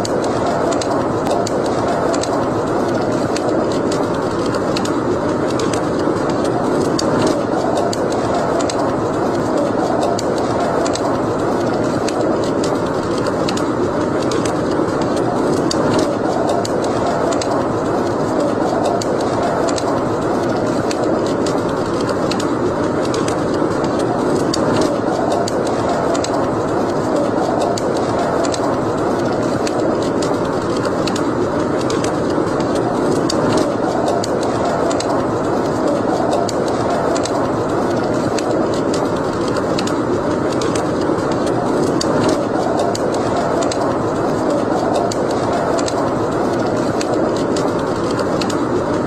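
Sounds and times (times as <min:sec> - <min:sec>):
fire crackling and popping: 0:00.0 - 0:49.0
rushing flames: 0:00.0 - 0:49.0.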